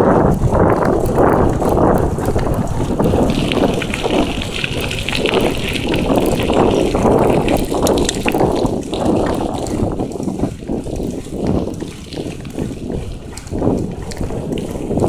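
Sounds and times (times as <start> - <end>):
bicycle tyres rumbling on ground: 0.0 - 15.0
wind buffeting microphone: 0.0 - 15.0.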